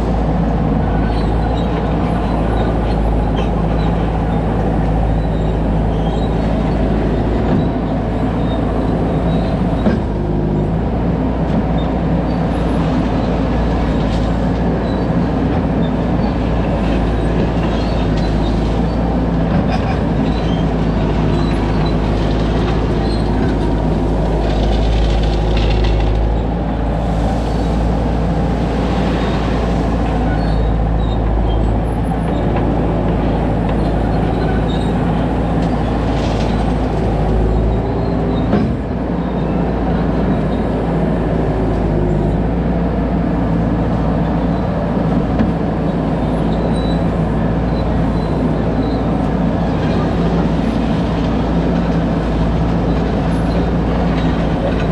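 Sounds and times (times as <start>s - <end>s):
loader engine running: 0.0s - 54.9s.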